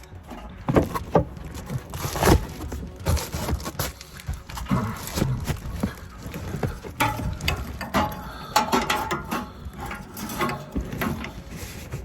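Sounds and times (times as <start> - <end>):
hand tools clicking and rattling: 0.0 - 12.0.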